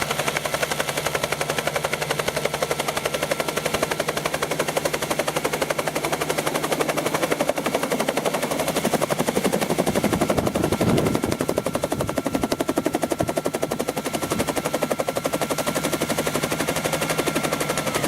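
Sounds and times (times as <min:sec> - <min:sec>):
helicopter rotor beating: 0:00.0 - 0:18.0.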